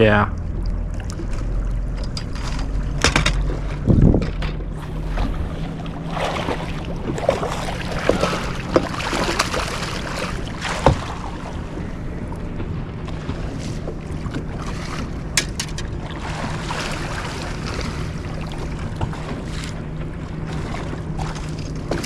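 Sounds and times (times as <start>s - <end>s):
wind on microphone: 0.0s - 19.6s
low boat hum: 0.0s - 22.0s
knocks and clatters on boat: 0.5s - 22.0s.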